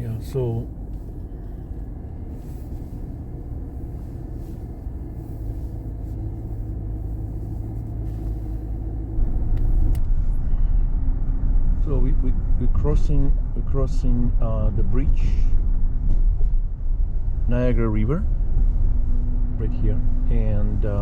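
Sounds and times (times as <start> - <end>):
car interior road and engine rumble: 0.0 - 21.0.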